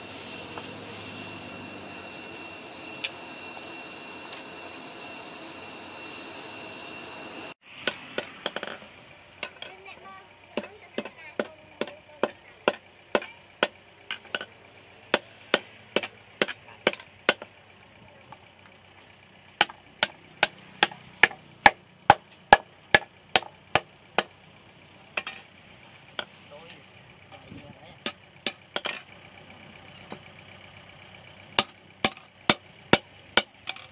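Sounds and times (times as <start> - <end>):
forge blower whining: 0.0 - 30.3, 31.5 - 33.9.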